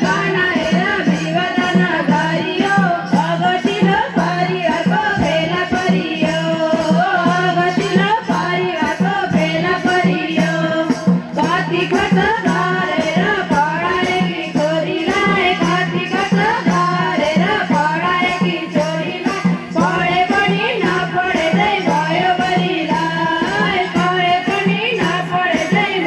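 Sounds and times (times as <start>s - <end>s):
hand drum beat: 0.0s - 26.0s
women singing: 0.0s - 26.0s.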